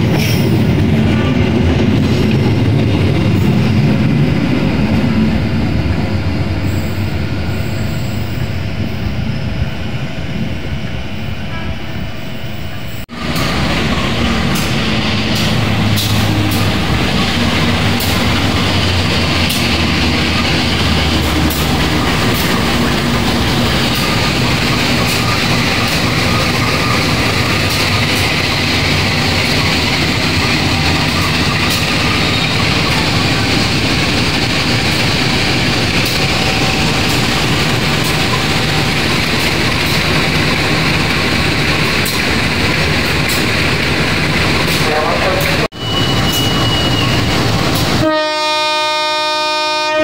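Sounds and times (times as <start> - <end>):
locomotive engine humming: 0.5 - 50.0.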